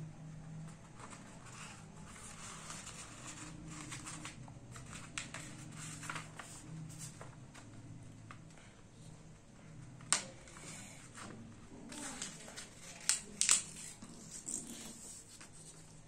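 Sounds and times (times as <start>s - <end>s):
paper rustling and crackling: 0.6s - 8.6s, 10.1s - 16.0s.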